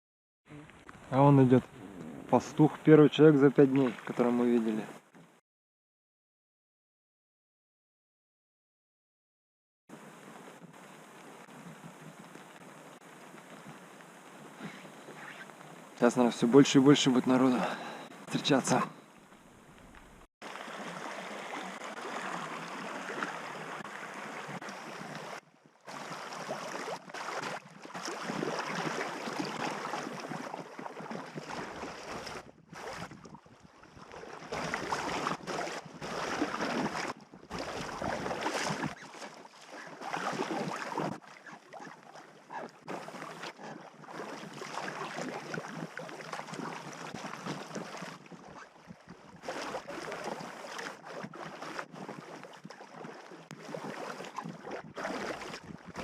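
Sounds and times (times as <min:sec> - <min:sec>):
water splashing and lapping: 0:00.6 - 0:05.1, 0:10.0 - 0:56.0.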